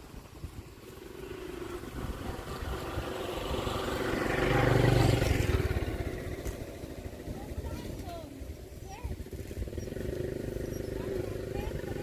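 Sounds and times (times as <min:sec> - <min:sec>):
vehicle engine passing by: 0:00.2 - 0:12.0.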